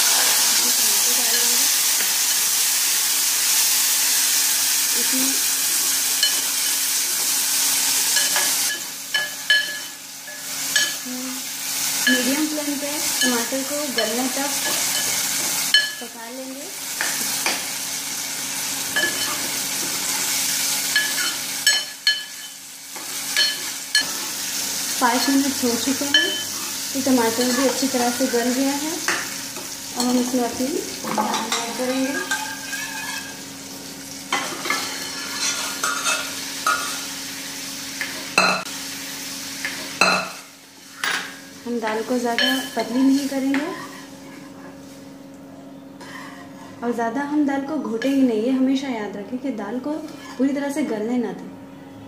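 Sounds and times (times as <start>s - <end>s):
tomatoes sizzling in hot oil: 0.0s - 45.2s.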